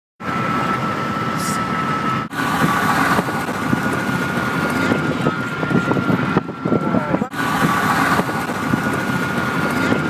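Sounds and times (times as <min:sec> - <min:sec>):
car engine running: 0:00.2 - 0:10.0.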